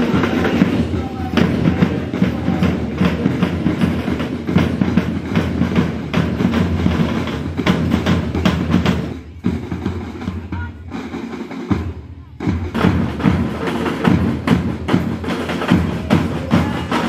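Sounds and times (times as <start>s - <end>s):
marching band drums: 0.0s - 17.0s.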